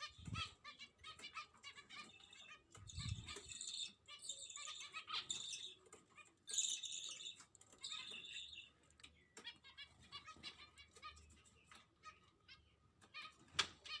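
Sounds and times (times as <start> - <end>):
pet birds chirping: 0.0 - 14.0.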